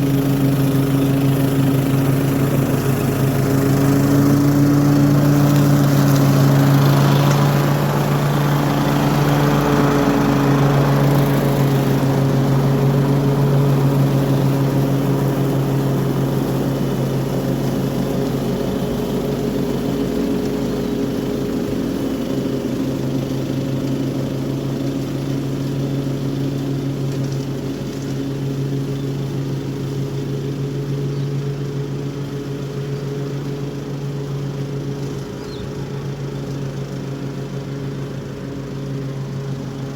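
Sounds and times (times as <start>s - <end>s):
lawn mower engine cutting grass: 0.0s - 39.9s.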